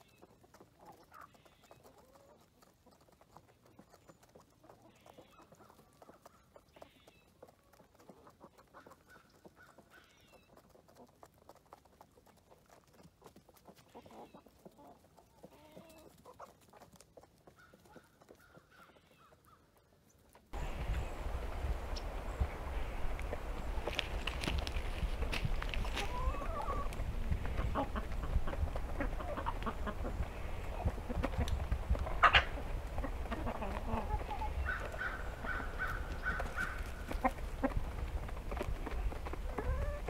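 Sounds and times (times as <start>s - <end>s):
chickens clucking: 0.0s - 40.0s.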